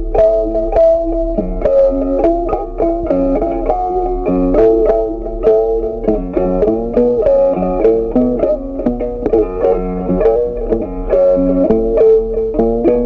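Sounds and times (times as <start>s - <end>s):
plucked string instrumental tune: 0.0s - 13.0s.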